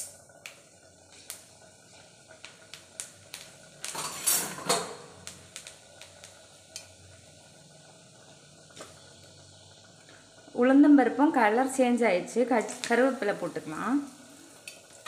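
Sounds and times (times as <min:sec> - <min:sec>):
seeds popping in hot oil: 0:00.0 - 0:15.0.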